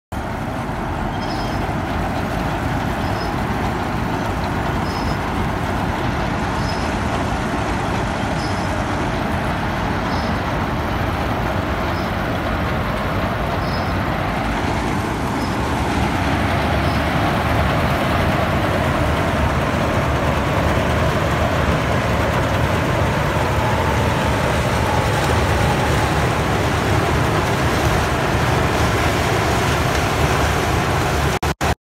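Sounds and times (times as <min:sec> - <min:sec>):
combine harvester running: 0:00.1 - 0:31.8.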